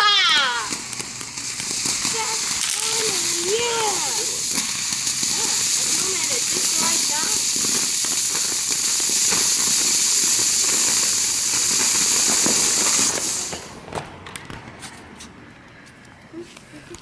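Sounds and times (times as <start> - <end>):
firework fountain hissing: 0.0 - 14.0.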